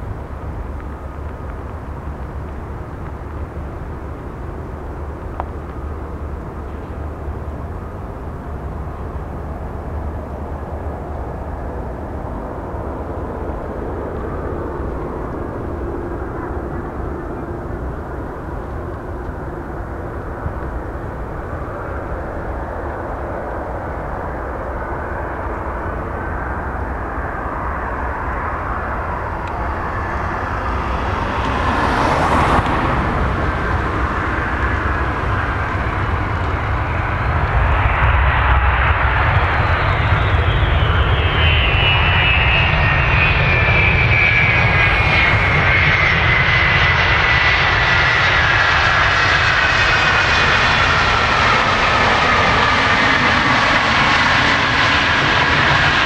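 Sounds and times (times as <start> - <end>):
jet airliner engine rush: 0.0 - 56.0.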